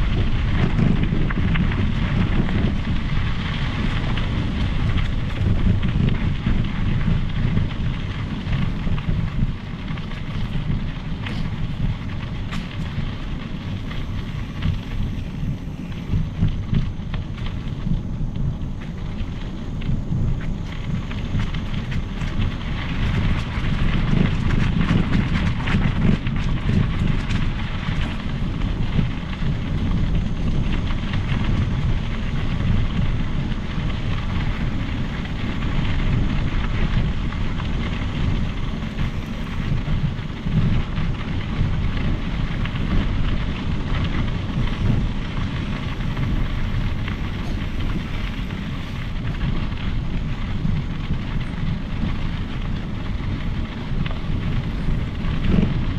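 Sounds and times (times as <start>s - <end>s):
bike rattling: 0.0s - 55.9s
bike tyres rolling: 0.0s - 55.9s
wind rumble on microphone: 0.0s - 55.9s.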